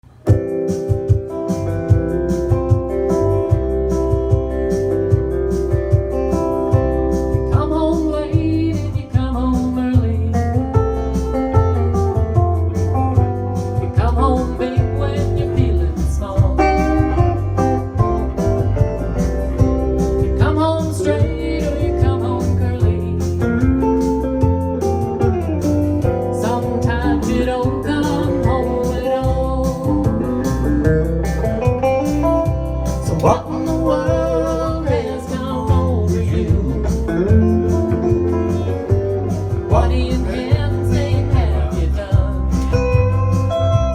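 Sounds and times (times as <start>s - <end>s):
bluesy country band music: 0.0s - 43.9s
guitar lead with bending notes: 0.0s - 43.9s.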